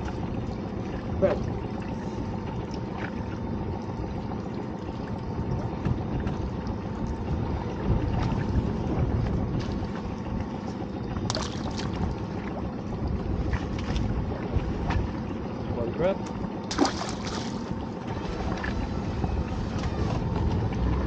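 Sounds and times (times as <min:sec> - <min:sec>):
boat engine rumble and water wash: 0:00.0 - 0:21.0.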